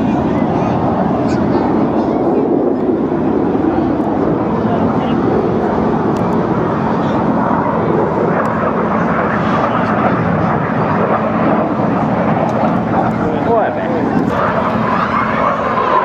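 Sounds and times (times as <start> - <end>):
jet aircraft roaring: 0.0 - 16.0.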